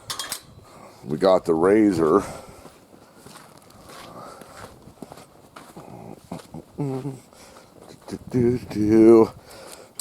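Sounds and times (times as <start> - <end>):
faint footsteps: 0.6 - 10.0.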